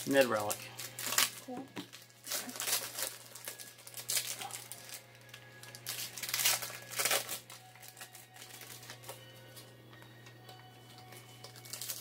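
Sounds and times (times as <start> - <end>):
wrappers crinkling and rustling: 0.0 - 9.7, 10.9 - 12.0.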